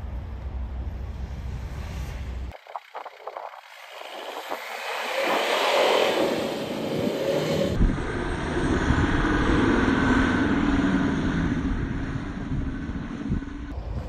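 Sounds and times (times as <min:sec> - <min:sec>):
engine drone with low rumble: 0:00.0 - 0:14.0.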